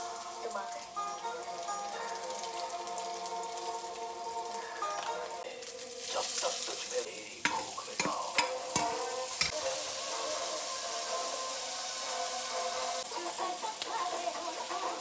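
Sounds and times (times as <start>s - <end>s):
faint background music: 0.0s - 15.0s
noodles sizzling in a pan: 0.0s - 15.0s.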